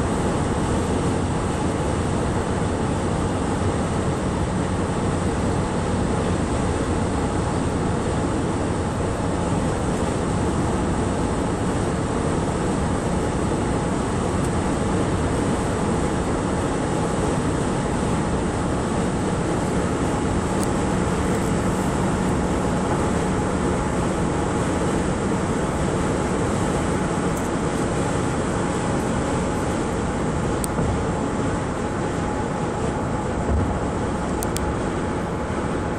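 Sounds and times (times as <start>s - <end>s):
car road noise at highway speed: 0.0s - 35.9s.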